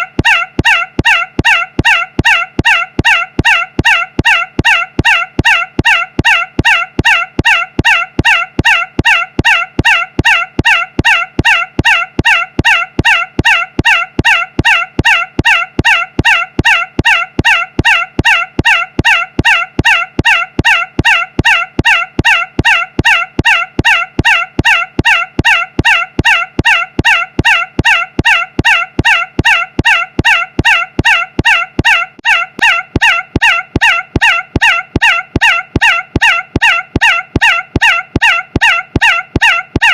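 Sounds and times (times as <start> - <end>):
nasal squawk-like tone repeating: 0.0 - 39.9.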